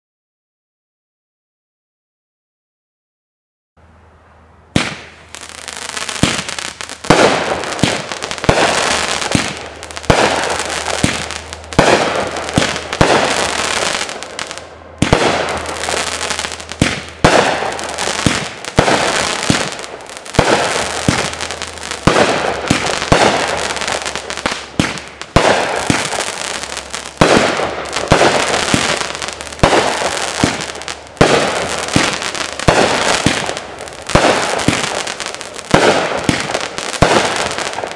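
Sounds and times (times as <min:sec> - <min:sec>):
firework cake bangs: 0:04.8 - 0:05.2, 0:06.1 - 0:37.9.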